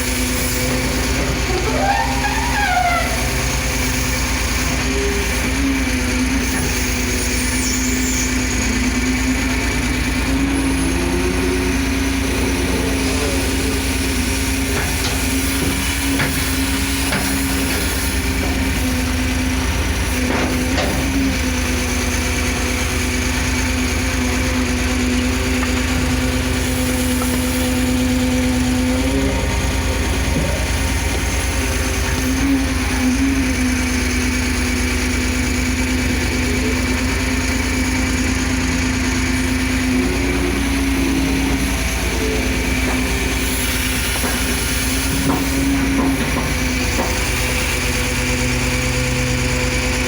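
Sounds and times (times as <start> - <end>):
excavator diesel engine: 0.0 - 50.0.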